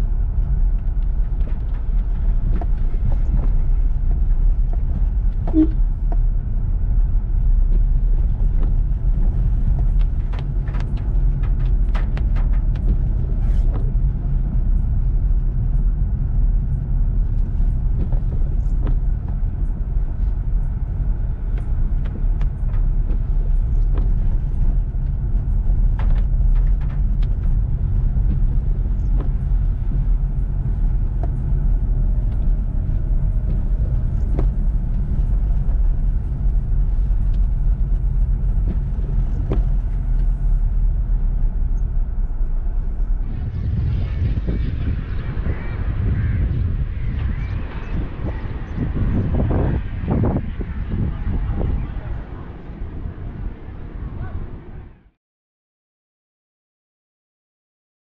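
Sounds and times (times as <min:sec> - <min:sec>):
car engine and road rumble: 0:00.0 - 0:55.1.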